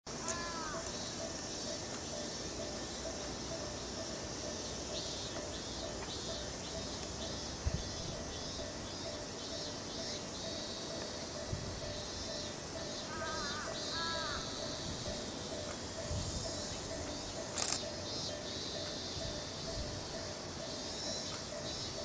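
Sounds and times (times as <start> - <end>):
insects calling: 0.1 - 22.0.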